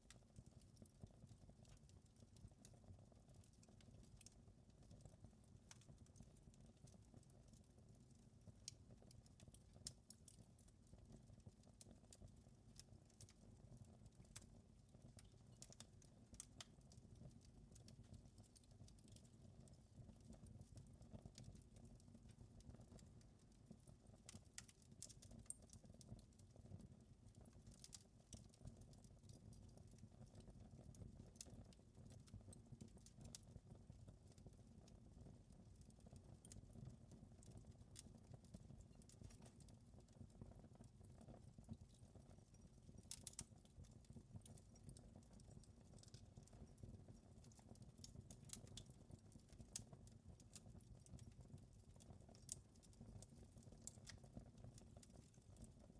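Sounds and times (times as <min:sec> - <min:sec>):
wood fire crackling: 0:00.1 - 0:55.9.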